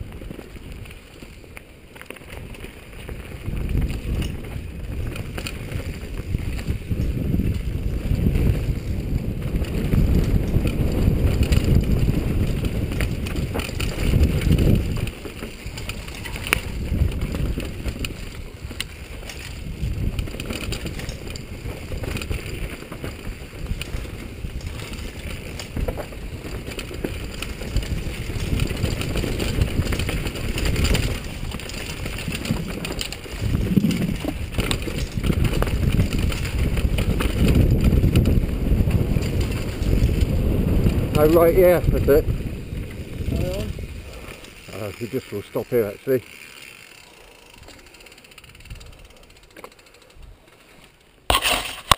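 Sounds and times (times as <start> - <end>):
bike rattling and knocking: 0.0 - 51.9
wind buffeting microphone: 2.3 - 45.5.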